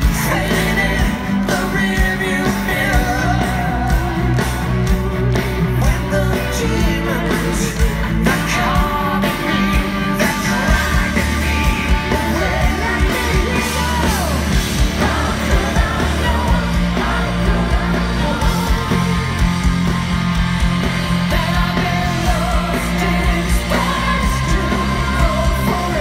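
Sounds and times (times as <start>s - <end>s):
live rock band playing: 0.0s - 26.0s
male lead singer: 0.0s - 26.0s.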